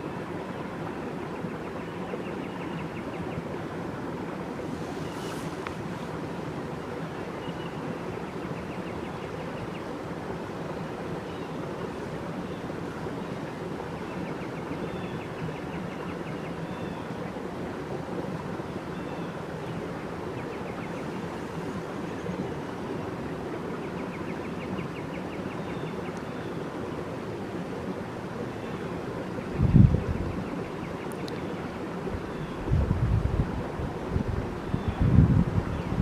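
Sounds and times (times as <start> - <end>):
rushing nature ambience: 0.0 - 36.0.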